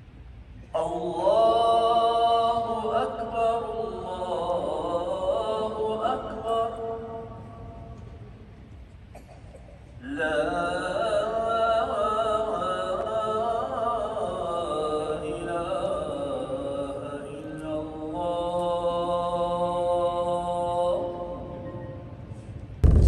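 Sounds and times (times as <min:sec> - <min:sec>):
chanted vocal melody: 0:00.7 - 0:07.9, 0:10.0 - 0:22.4.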